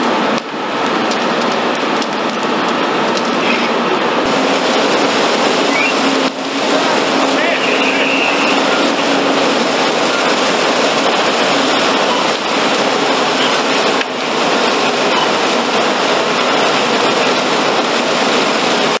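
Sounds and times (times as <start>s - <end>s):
fire hose spraying water: 0.0s - 19.0s.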